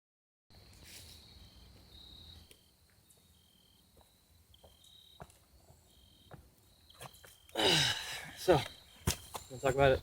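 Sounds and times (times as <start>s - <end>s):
faint crickets chirping: 0.5s - 10.0s.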